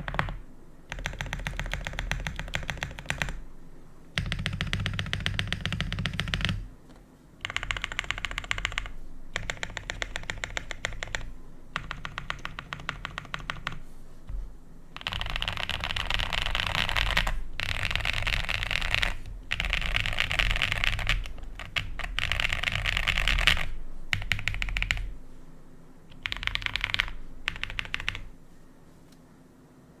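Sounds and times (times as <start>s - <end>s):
fast typing on mechanical keyboard: 0.0s - 3.4s, 4.2s - 6.7s, 7.4s - 13.8s, 15.0s - 25.2s, 26.1s - 28.4s.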